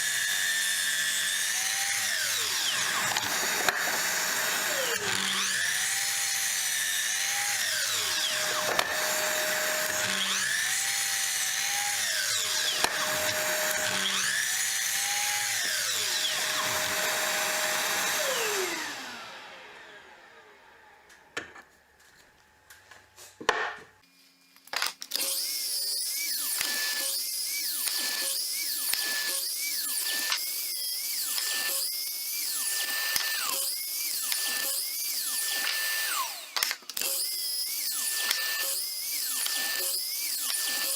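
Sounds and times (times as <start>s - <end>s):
electric power tool whining: 0.0s - 21.4s, 25.1s - 40.9s.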